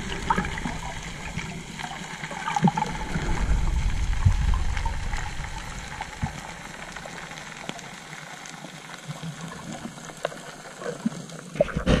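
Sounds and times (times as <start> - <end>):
underwater hiss: 0.0 - 12.0.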